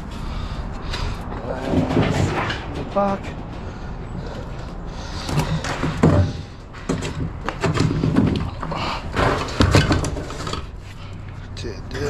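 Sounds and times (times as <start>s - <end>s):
scrap metal knocks and clanks: 0.0s - 12.0s.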